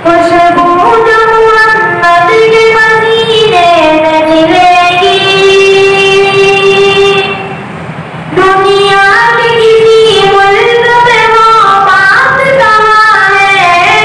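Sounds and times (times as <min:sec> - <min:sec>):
boy singing into a microphone: 0:00.0 - 0:07.6, 0:08.3 - 0:14.0.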